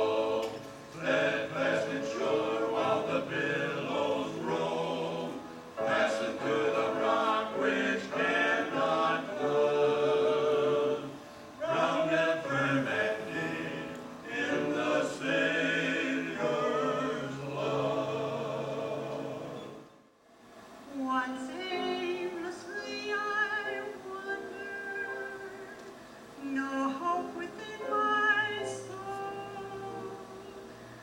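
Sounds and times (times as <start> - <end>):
choir singing a hymn: 0.0 - 20.0, 20.9 - 31.0.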